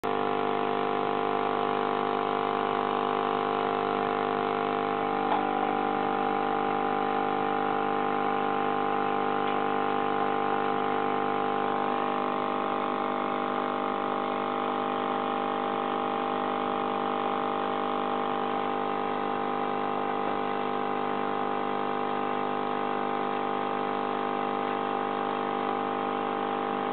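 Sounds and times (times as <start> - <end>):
aquarium pump humming: 0.0 - 26.9.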